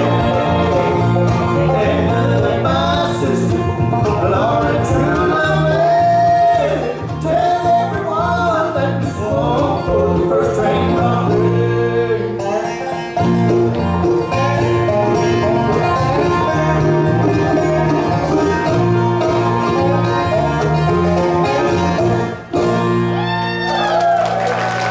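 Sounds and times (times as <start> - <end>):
fiddle: 0.0 - 8.7, 11.0 - 24.1
banjo: 0.0 - 23.4
acoustic guitar: 0.0 - 24.9.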